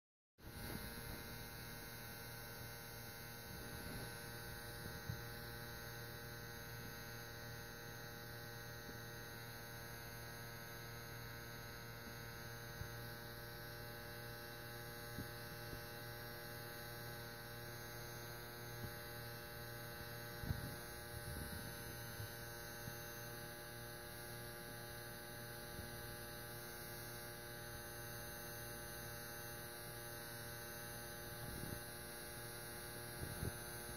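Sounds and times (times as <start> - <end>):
steady electrical hum: 0.4 - 33.9.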